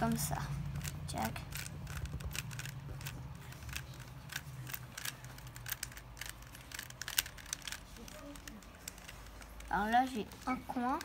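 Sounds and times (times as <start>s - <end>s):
puzzle cube clicking: 0.7s - 11.0s.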